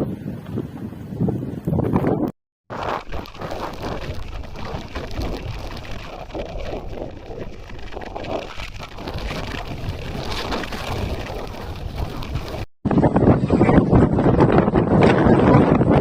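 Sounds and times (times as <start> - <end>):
blizzard wind gusting: 0.0 - 16.0.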